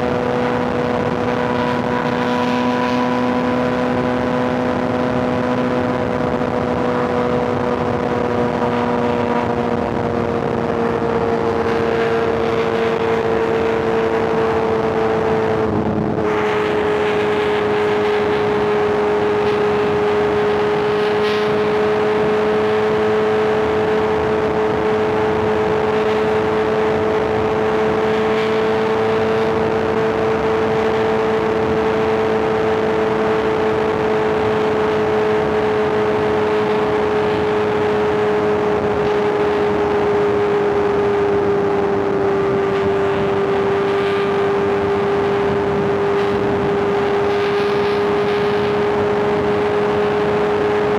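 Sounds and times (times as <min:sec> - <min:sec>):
motorcycle engine cruising: 0:00.0 - 0:50.9.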